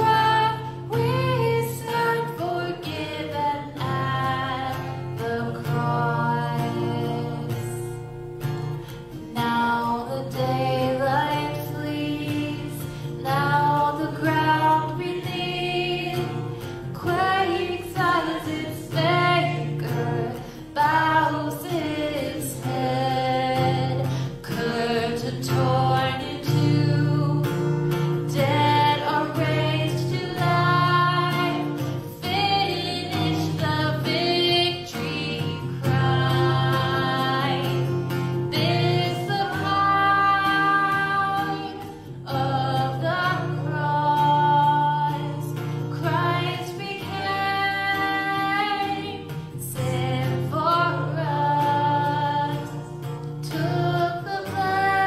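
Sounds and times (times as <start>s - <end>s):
guitar accompaniment: 0.0s - 55.0s
woman singing worship song: 0.0s - 55.0s.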